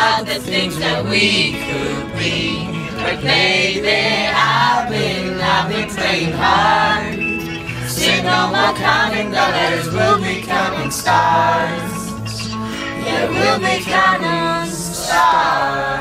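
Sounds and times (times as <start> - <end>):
several voices singing: 0.0 - 16.0.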